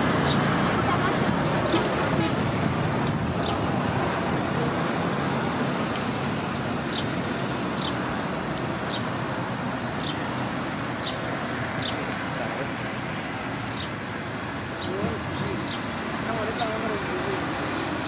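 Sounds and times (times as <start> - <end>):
rushing engine noise: 0.0 - 18.0.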